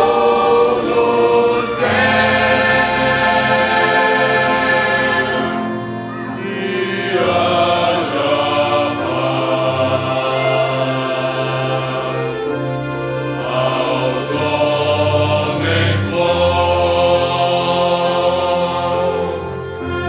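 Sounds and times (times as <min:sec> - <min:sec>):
choir and orchestra performing: 0:00.0 - 0:20.0.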